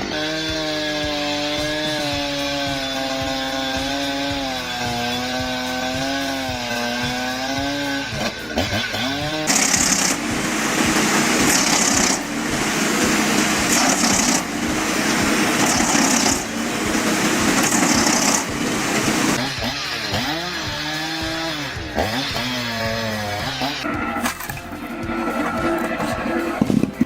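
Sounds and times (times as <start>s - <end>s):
engine-driven saw cutting wood: 0.0s - 27.0s.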